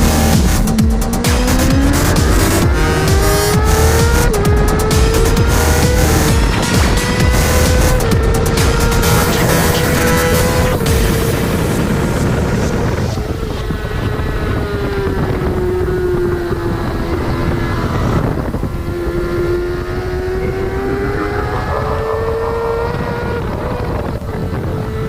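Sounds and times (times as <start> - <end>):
motorcycle engine at high revs: 0.0 - 25.0.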